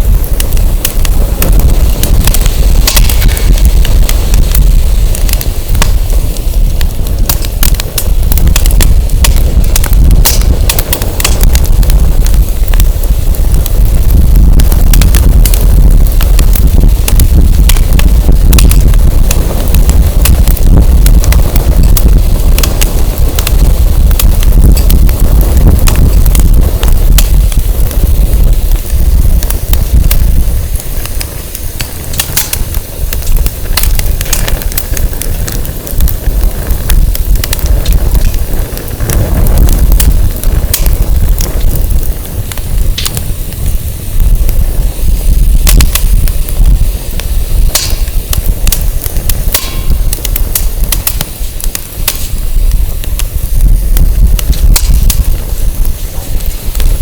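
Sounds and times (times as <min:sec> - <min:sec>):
campfire crackling and popping: 0:00.0 - 0:57.0
wind buffeting microphone: 0:00.0 - 0:57.0.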